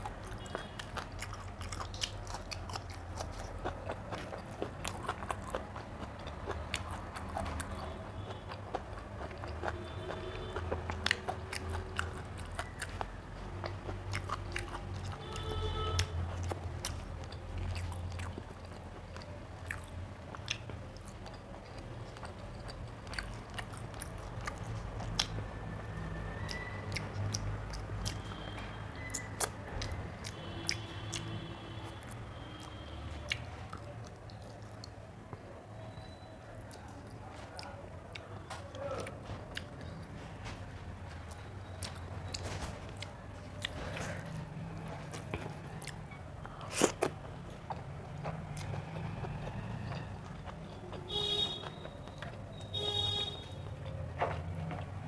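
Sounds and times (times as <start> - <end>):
chewing and mouth smacking: 0.0 - 55.0.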